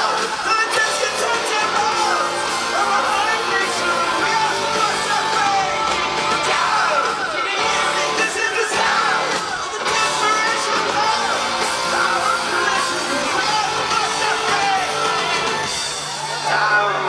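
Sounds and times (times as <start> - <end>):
crowd yelling: 0.0 - 17.0
rock band playing live: 0.0 - 17.0
singer: 0.0 - 17.0.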